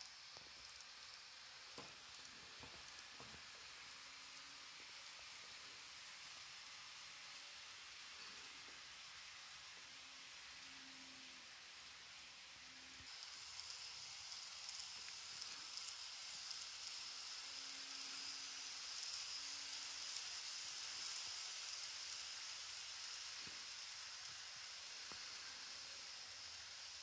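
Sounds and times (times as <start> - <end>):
model train running: 0.0 - 27.0.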